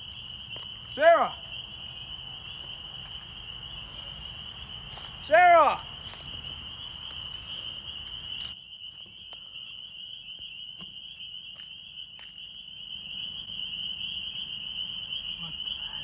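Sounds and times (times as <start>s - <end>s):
chorus of night creatures calling: 0.0s - 16.0s.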